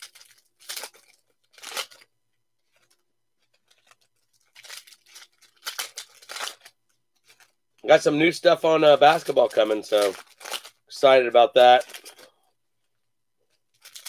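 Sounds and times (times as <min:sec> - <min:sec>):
foil card packs crinkling: 0:00.0 - 0:12.4, 0:13.5 - 0:14.0.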